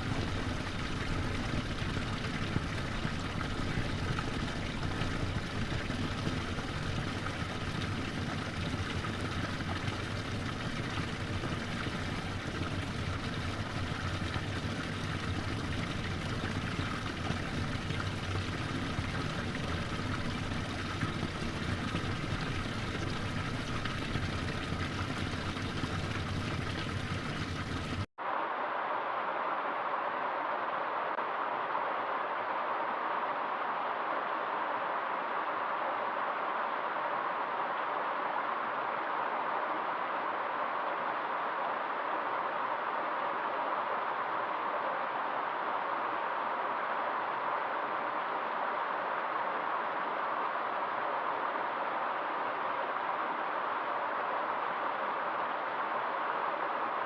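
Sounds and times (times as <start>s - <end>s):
forest stream flowing: 0.0s - 57.0s.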